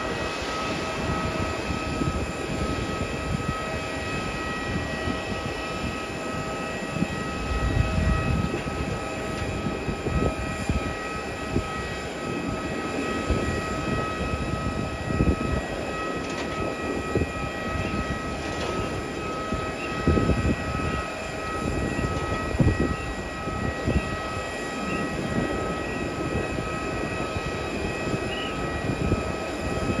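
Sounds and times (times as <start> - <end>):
jet auxiliary power unit whine: 0.0 - 30.0
wind buffeting microphone: 0.0 - 30.0.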